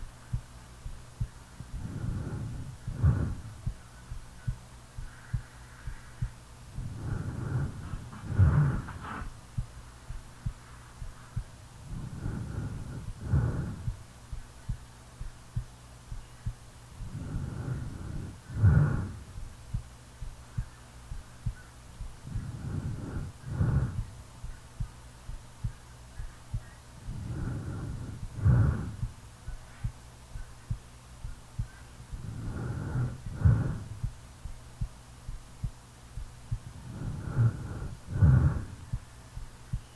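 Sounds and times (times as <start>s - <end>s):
heartbeat thumping: 0.0s - 39.9s
slow heavy breathing: 1.2s - 14.8s, 16.9s - 19.9s, 21.4s - 25.8s, 26.5s - 30.0s, 30.7s - 35.4s, 36.2s - 39.9s.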